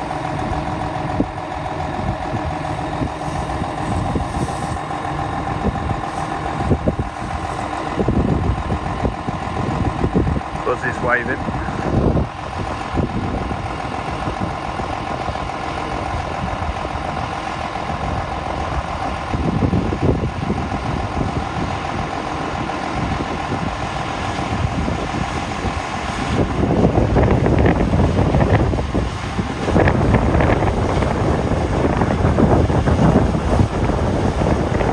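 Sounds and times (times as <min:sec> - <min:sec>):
rushing noise: 0:00.0 - 0:34.9
tractor engine running: 0:00.0 - 0:34.9.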